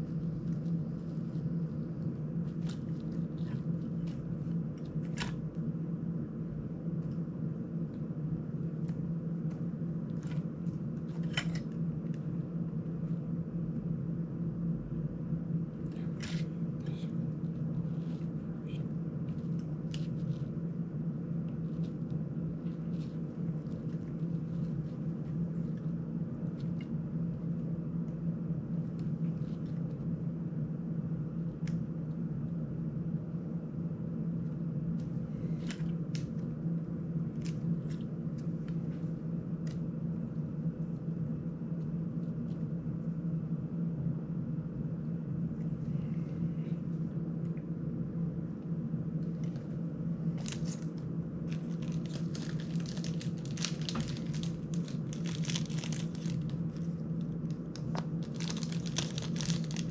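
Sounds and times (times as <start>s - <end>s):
low room hum: 0.0s - 59.9s.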